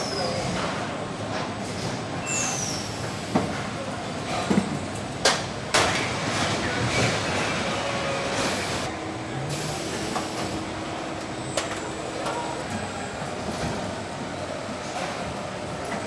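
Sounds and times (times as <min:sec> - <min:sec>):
factory machinery noise: 0:00.0 - 0:16.0.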